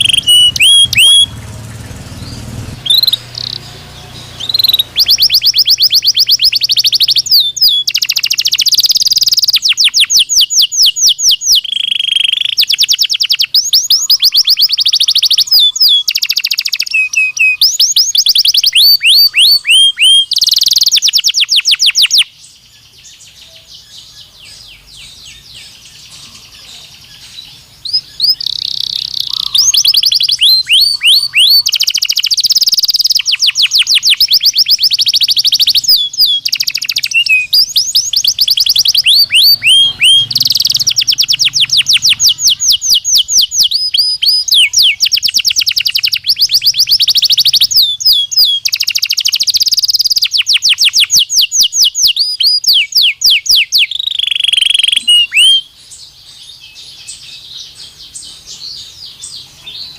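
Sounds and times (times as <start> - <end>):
canary singing trills: 0.0 - 59.9
faint bird chirping: 0.0 - 59.9.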